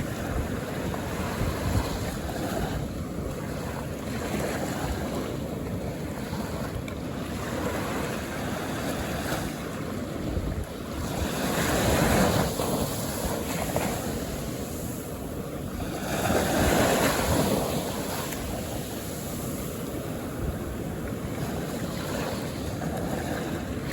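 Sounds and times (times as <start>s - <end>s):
ocean waves on shore: 0.0s - 23.9s
wind buffeting microphone: 0.0s - 23.9s.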